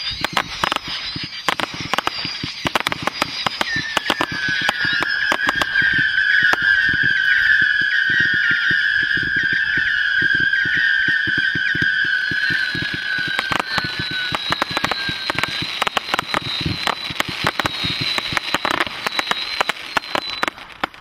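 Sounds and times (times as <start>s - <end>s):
firework cracks and pops: 0.0s - 21.0s
firework whistling: 0.0s - 21.0s.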